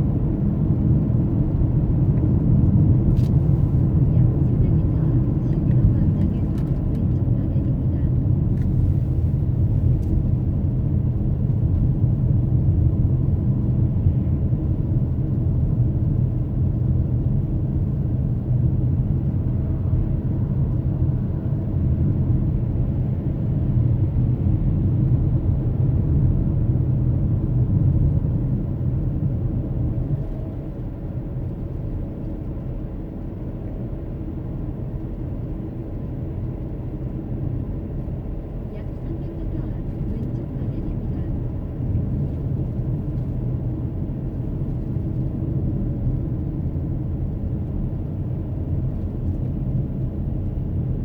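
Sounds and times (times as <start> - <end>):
car engine and tyre rumble: 0.0 - 51.0.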